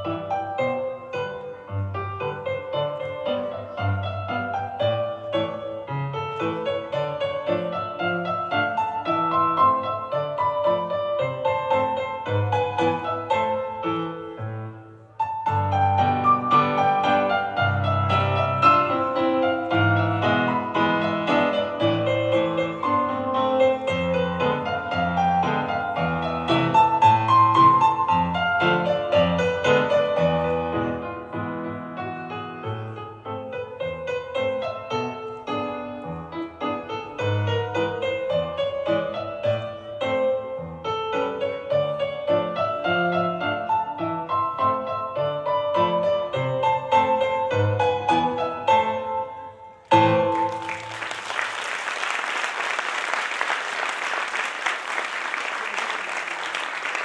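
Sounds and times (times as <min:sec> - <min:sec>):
piano melody with low bass: 0:00.0 - 0:50.7.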